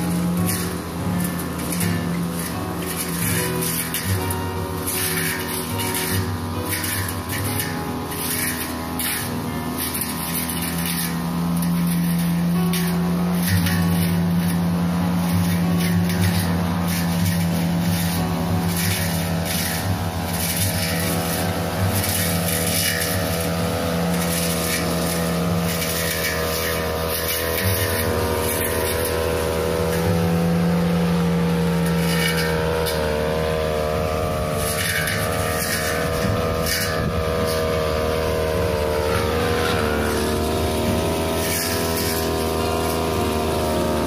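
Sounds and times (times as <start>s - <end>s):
blade chopping leaves and twigs: 0.0s - 44.0s
brush cutter engine running: 0.0s - 44.0s.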